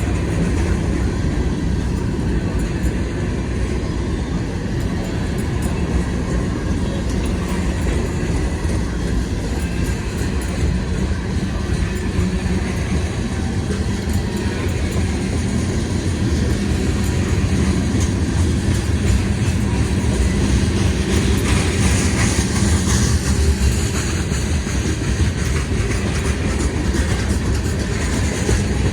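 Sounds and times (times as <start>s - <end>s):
freight train rolling past: 0.0s - 28.9s
steel wheels clattering on rails: 0.0s - 28.9s.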